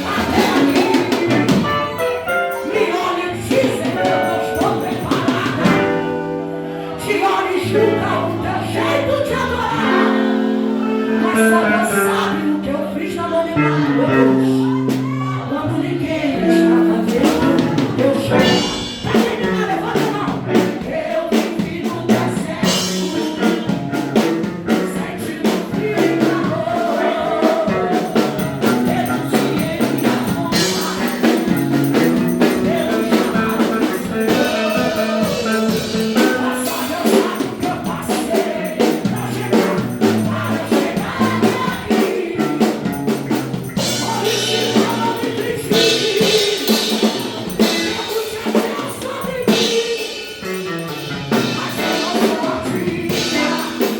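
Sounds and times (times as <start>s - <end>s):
drum kit beat: 0.0s - 6.4s, 13.8s - 15.4s, 16.4s - 53.9s
worship song with singing: 0.0s - 53.9s.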